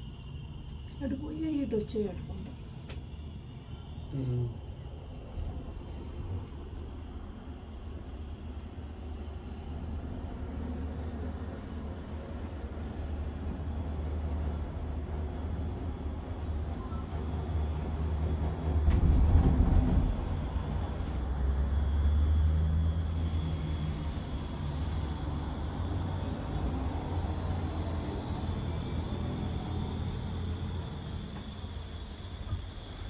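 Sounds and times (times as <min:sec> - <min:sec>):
vehicle rumble from inside: 0:00.7 - 0:33.0.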